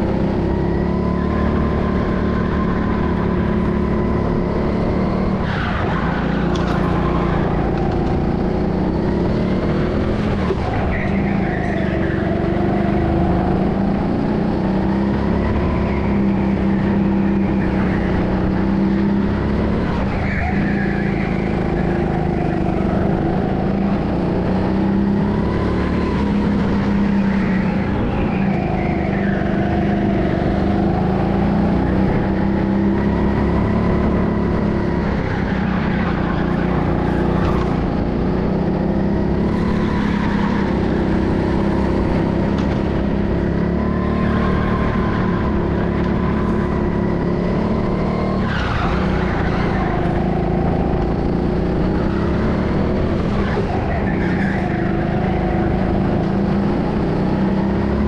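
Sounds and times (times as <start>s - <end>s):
go-kart engine: 0.0s - 58.0s
road and wind noise: 0.0s - 58.0s.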